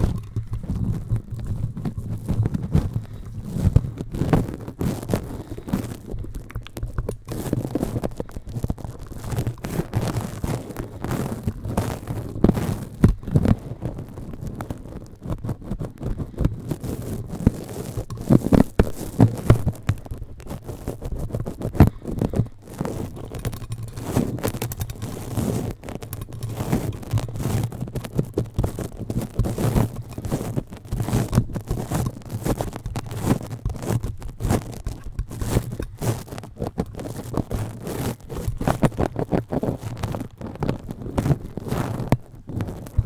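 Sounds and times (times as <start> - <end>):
scratching on microphone: 0.0 - 43.0.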